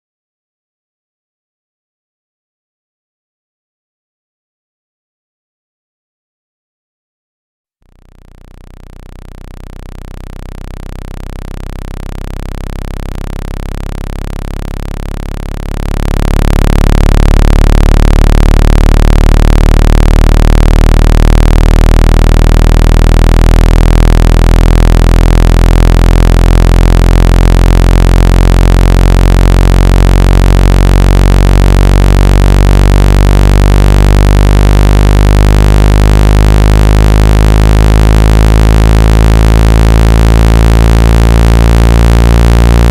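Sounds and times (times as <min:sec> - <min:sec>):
low electronic buzzing tone: 0:07.8 - 0:42.9.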